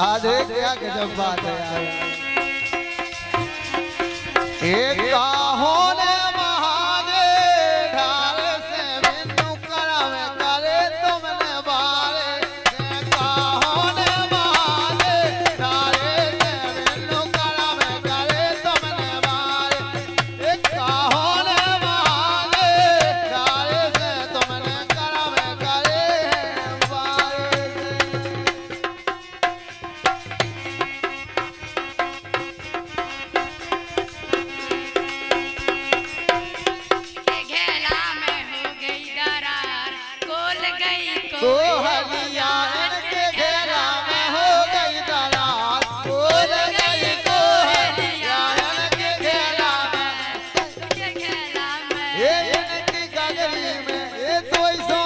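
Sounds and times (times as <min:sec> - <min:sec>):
rhythmic hand drum: 0:00.0 - 0:07.3, 0:08.3 - 0:55.0
man singing into a microphone: 0:00.0 - 0:55.0.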